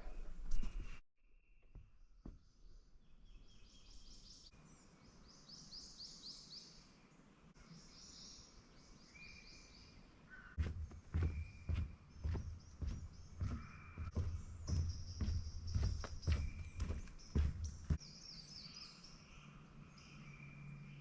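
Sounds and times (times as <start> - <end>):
birds chirping: 3.0 - 21.0.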